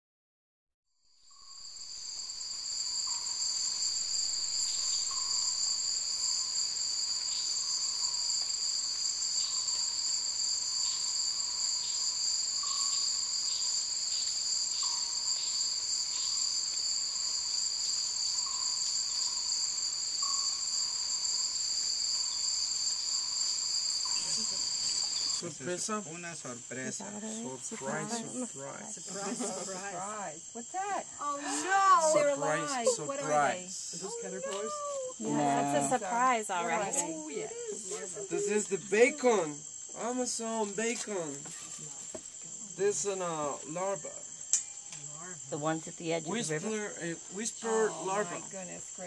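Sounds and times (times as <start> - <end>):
insect chorus drone: 1.0 - 49.0.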